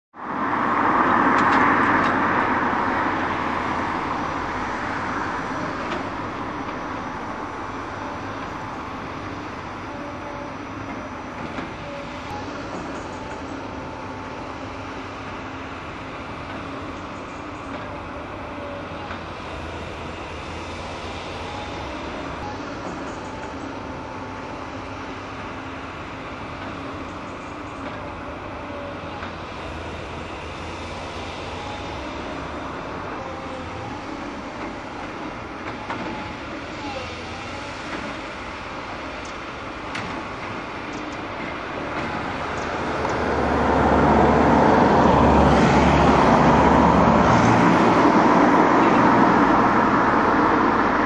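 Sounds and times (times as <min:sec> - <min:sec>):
diesel engine drone: 0:00.1 - 0:51.0
hydraulic whines: 0:00.5 - 0:51.0.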